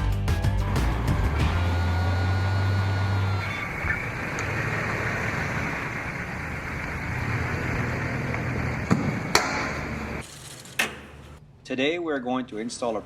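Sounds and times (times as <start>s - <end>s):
vehicle road and engine noise: 0.6s - 11.4s.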